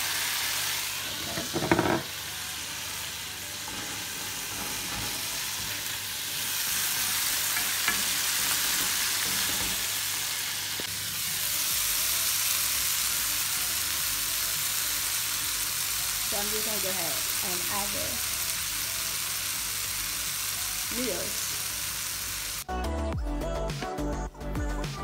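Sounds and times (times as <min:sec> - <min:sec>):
onions sizzling in oil: 0:00.0 - 0:22.7.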